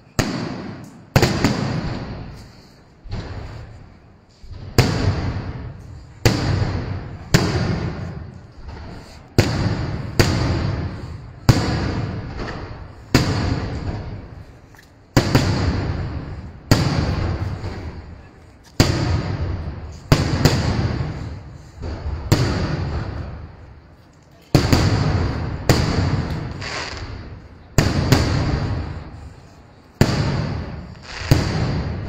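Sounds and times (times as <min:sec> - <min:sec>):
fireworks bursting with echo: 0:00.0 - 0:32.0.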